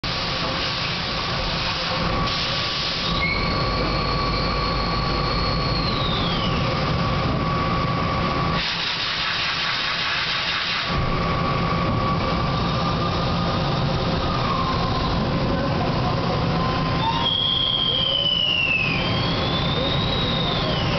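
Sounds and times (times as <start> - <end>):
lathe mechanical whine: 1.1 - 8.8, 10.3 - 20.9.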